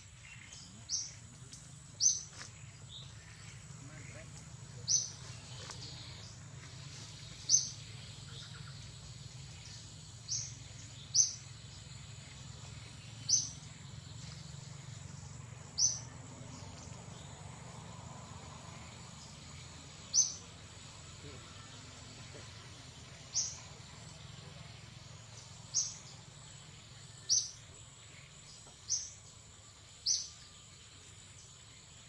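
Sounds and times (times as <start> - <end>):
faint low forest hum: 0.0 - 32.0.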